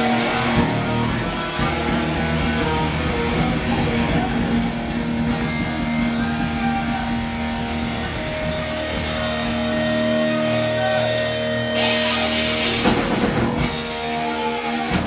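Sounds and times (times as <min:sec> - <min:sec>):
distorted electric guitars: 0:00.0 - 0:15.0
metal band playing: 0:00.0 - 0:15.0.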